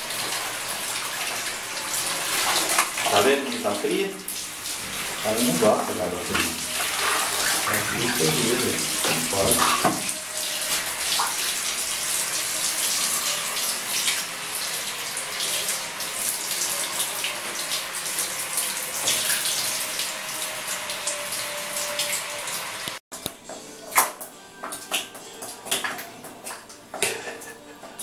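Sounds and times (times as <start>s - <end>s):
shower spray splashing on tiles: 0.0s - 23.0s.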